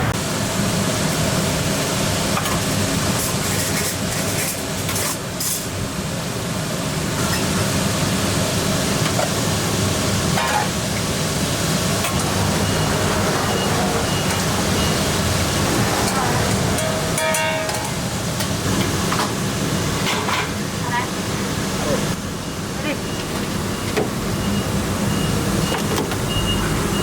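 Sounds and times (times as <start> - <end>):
exhaust fan roar: 0.0 - 27.0.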